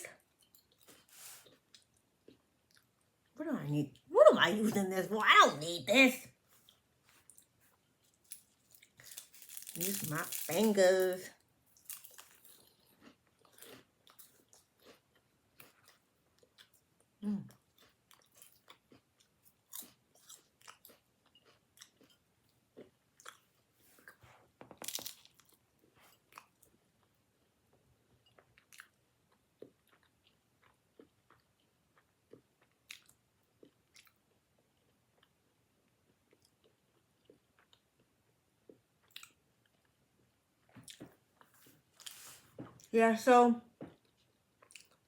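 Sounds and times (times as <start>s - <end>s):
person chewing crunchy pastry: 0.1s - 3.4s, 6.5s - 42.9s, 43.9s - 45.0s.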